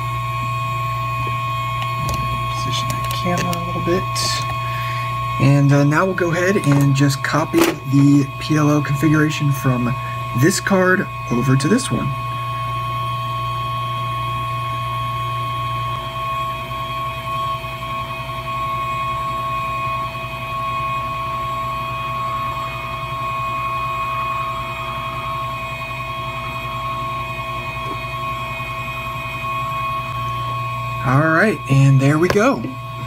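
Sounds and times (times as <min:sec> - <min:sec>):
hot air station fan whir: 0:00.0 - 0:33.0.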